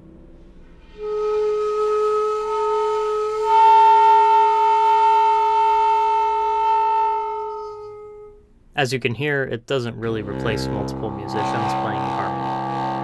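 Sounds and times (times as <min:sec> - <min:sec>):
bamboo flute multiphonic: 0:00.6 - 0:08.5, 0:10.2 - 0:13.0.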